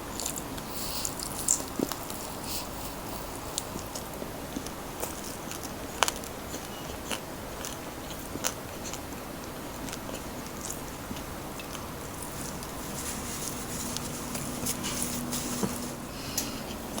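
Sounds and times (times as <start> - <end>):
crunchy chewing of fried chicken: 0.0 - 17.0.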